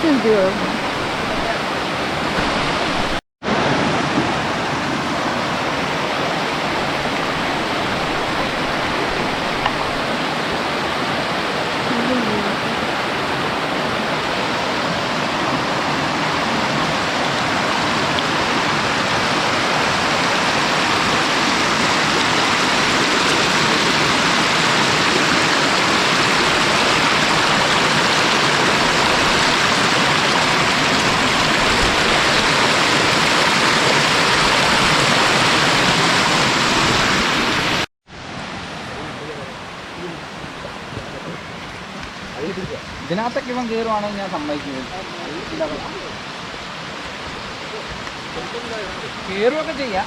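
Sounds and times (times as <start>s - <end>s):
fast-flowing stream water: 0.0s - 50.0s.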